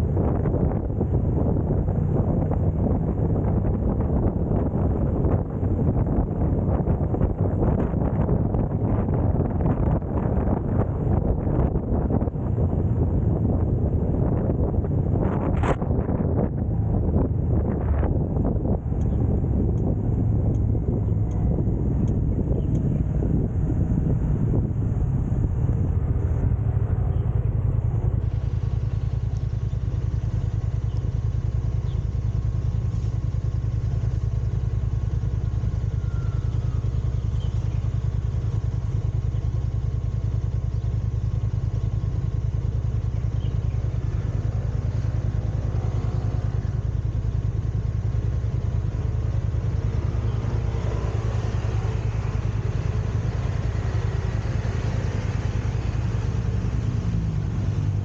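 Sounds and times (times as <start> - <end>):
car engine and road noise: 0.0 - 58.0
faint other traffic: 0.0 - 58.0.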